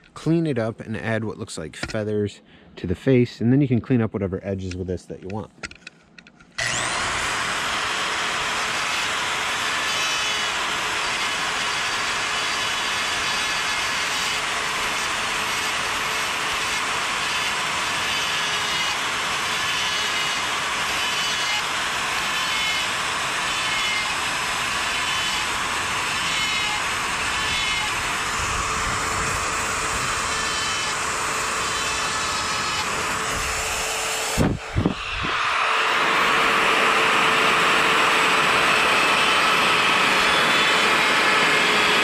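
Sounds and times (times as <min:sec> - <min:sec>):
die grinder whining into wood: 0:06.6 - 0:42.0.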